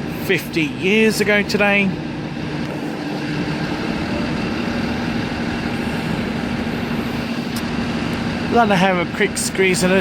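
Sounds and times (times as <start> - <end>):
idling engine drone: 0.0 - 10.0
railway station din: 0.0 - 10.0.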